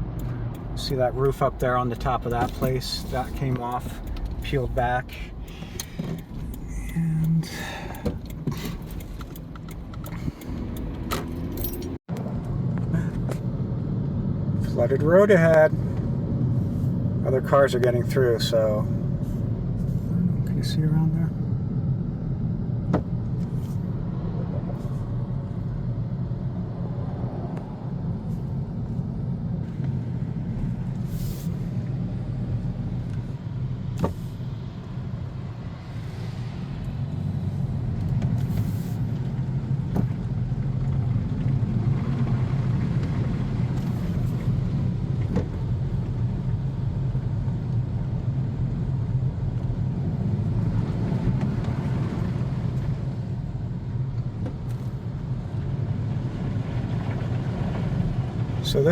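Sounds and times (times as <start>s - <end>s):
car engine and road noise rumble: 0.0s - 58.9s.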